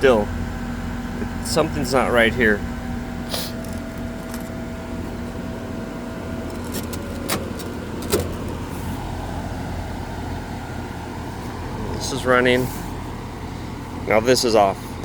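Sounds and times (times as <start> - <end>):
pool heater humming: 0.0 - 15.0.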